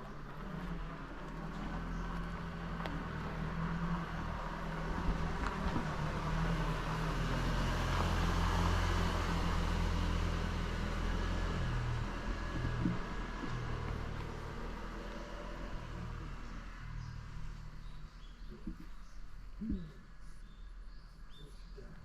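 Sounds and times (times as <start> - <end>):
vehicle engine passing: 0.0 - 19.9.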